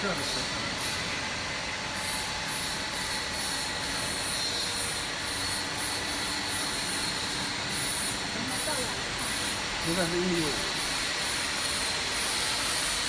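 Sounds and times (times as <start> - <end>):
mixer running with whine: 0.0 - 13.0.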